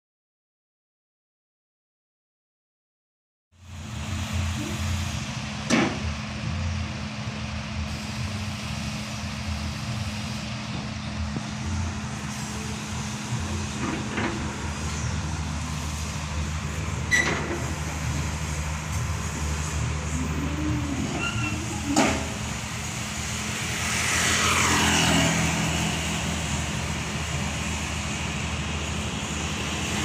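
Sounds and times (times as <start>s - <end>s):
excavator diesel engine running: 3.6s - 30.0s.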